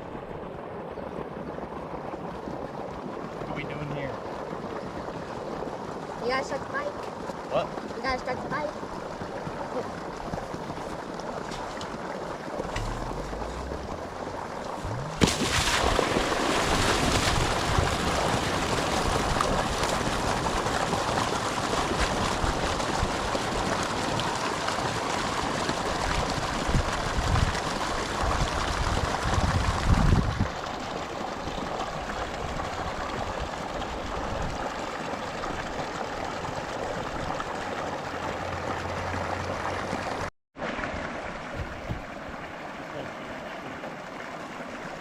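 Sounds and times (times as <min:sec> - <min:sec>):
water rushing out of a pipe: 0:00.0 - 0:45.0.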